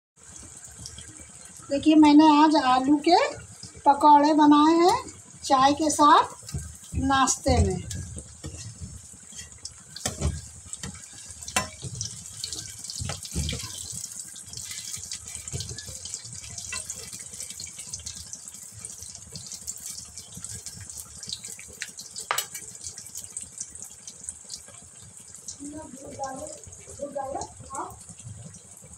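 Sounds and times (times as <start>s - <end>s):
deep-frying sizzle in hot oil: 0.2s - 28.9s.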